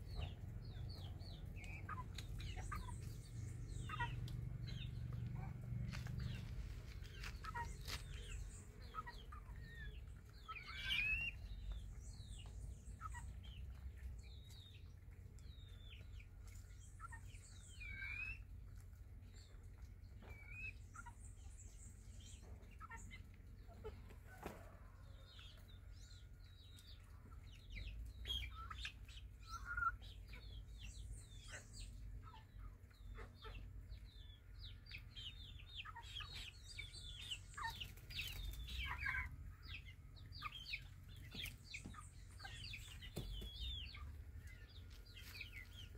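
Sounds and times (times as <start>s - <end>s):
low steady rumble: 0.0s - 24.3s, 24.9s - 45.9s
chicks peeping and clucking: 0.0s - 45.9s.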